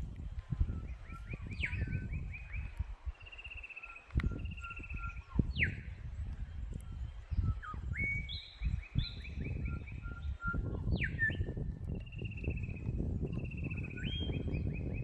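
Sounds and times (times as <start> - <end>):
wind on microphone: 0.0 - 15.0
birds calling: 0.5 - 15.0.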